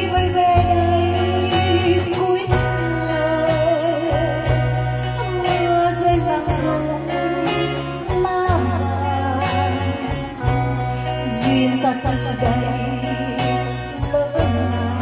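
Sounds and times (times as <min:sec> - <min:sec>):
bending guitar melody: 0:00.0 - 0:15.0
live band playing: 0:00.0 - 0:15.0.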